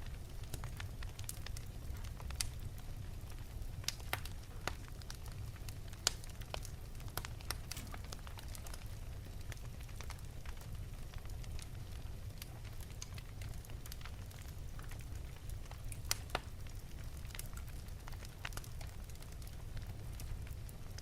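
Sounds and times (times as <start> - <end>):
fire crackling and popping: 0.0 - 21.0
fire flame rumble: 0.0 - 21.0.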